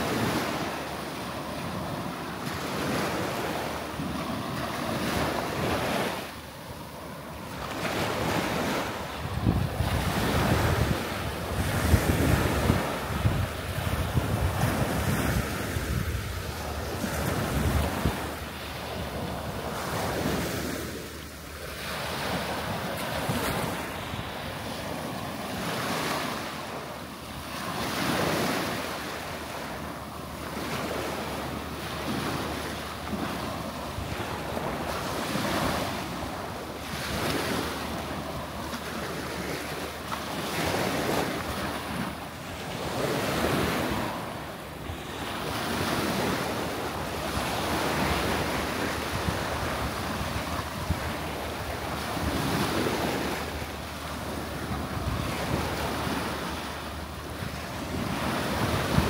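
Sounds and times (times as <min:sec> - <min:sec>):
small waves breaking on shore: 0:00.0 - 0:59.0.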